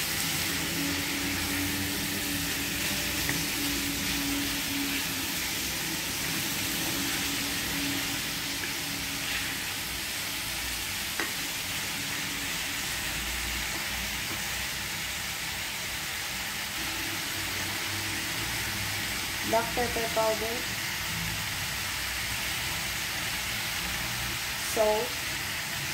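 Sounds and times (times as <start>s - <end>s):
meat and onions sizzling in a pan: 0.0s - 25.9s.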